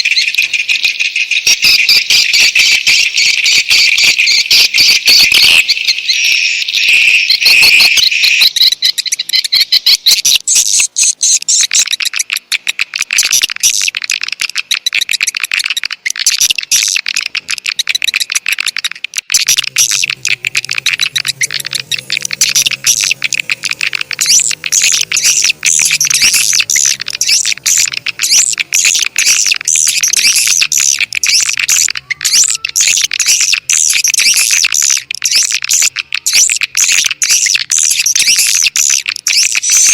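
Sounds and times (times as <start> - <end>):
swiftlets chirping and twittering: 0.0 - 39.9.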